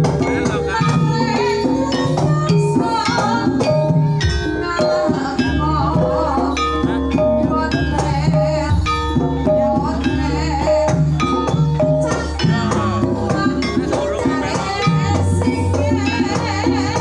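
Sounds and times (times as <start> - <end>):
gamelan keyed instruments: 0.0 - 17.0
hand drum patterns: 0.0 - 17.0
woman singing: 0.0 - 17.0.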